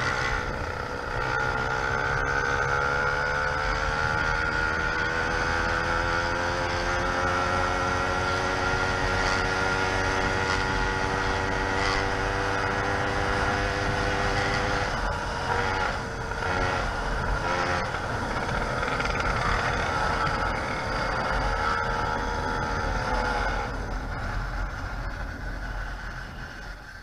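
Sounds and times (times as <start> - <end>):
two-stroke engine running: 0.0 - 27.0.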